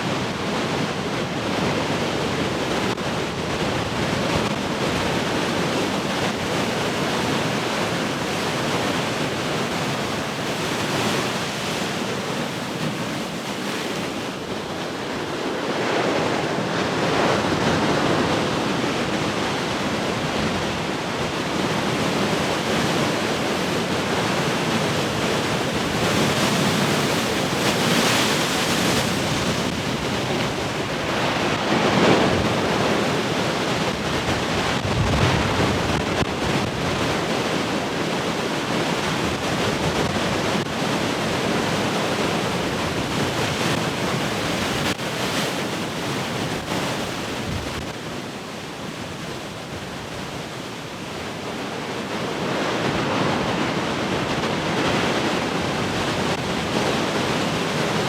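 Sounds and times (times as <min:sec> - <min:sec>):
ocean waves breaking: 0:00.0 - 0:58.0
wind: 0:00.0 - 0:58.0.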